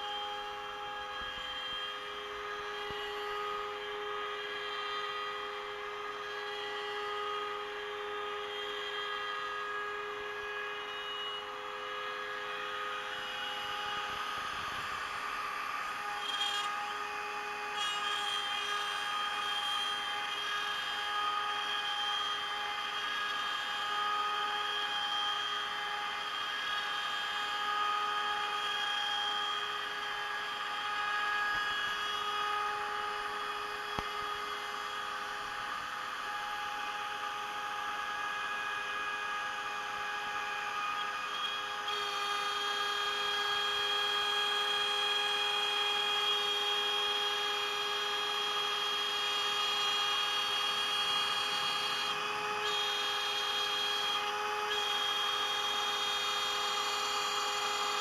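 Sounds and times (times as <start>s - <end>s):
router spindle whine: 0.0s - 58.0s.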